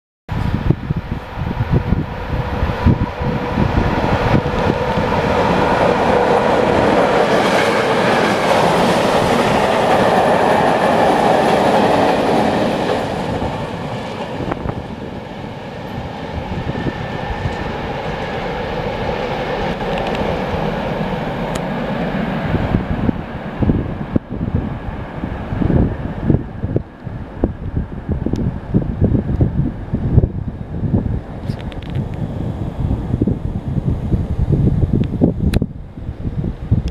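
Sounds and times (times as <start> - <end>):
electric locomotive hum: 0.3 - 36.9
wind buffeting microphone: 0.3 - 36.9.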